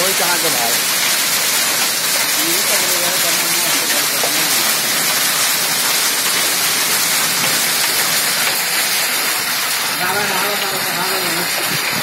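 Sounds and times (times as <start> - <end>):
heavy rain and hail: 0.0 - 12.0.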